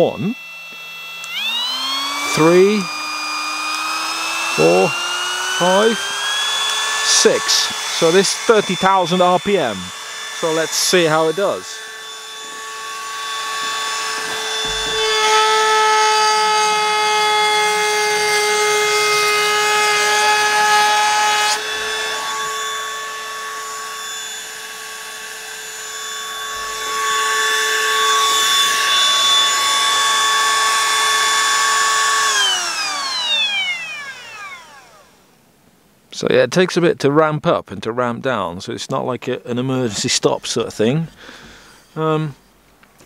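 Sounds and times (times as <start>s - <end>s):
motor spinning down: 0.0s - 35.4s
router bit cutting wood: 0.0s - 35.4s, 39.5s - 42.4s
router whining: 0.0s - 35.5s, 39.5s - 43.0s.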